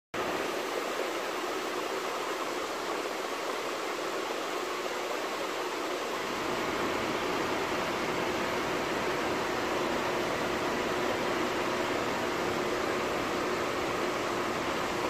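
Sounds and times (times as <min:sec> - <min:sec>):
aquarium aeration hiss: 0:00.2 - 0:15.0.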